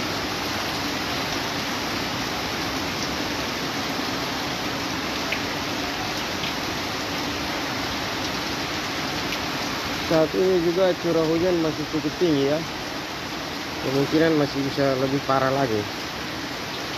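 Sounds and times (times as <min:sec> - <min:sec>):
floodwater rushing across a street: 0:00.0 - 0:16.9
heavy rain: 0:00.0 - 0:16.9.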